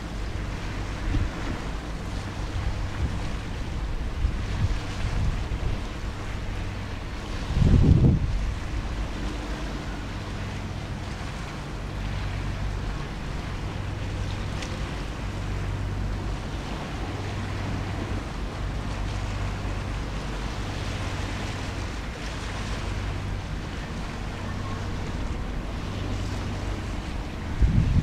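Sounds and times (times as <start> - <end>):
boat diesel engine humming: 0.0 - 28.0
wind on microphone: 0.0 - 28.0.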